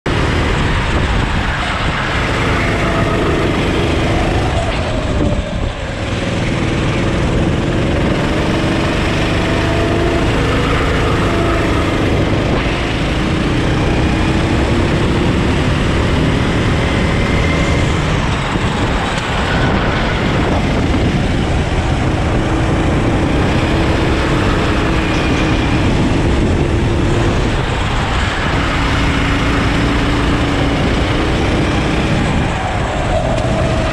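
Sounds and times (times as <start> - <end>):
kart engine revving: 0.1 - 33.9
steady rushing noise: 0.1 - 33.9.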